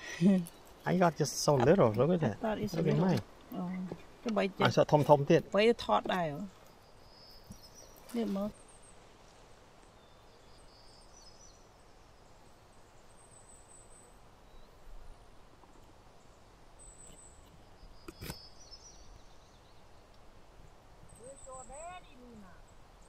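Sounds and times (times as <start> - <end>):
faint outdoor ambience: 0.0 - 23.0.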